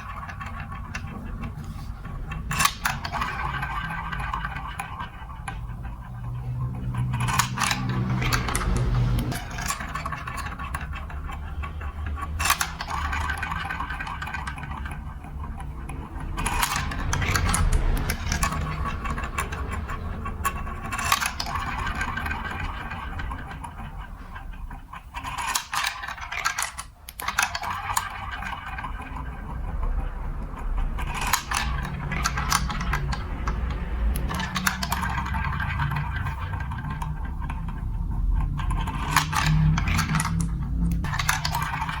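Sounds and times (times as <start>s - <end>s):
marbles clicking on pieces: 0.0s - 42.0s
marbles rolling and rattling: 0.0s - 42.0s.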